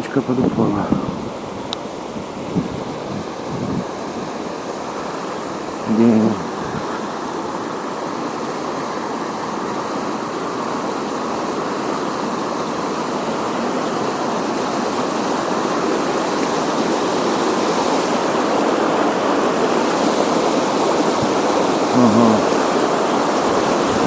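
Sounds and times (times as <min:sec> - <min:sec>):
river rushing over riffle: 0:00.0 - 0:24.0.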